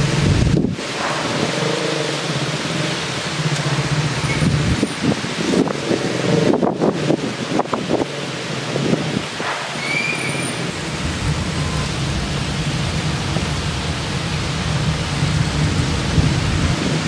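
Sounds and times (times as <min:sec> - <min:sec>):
heavy rain: 0:00.0 - 0:17.0
wind buffeting microphone: 0:00.0 - 0:17.0.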